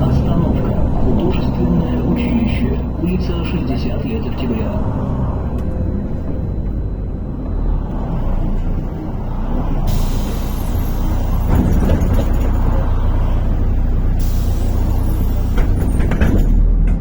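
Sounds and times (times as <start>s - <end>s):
bus diesel engine rumbling: 0.0s - 17.0s.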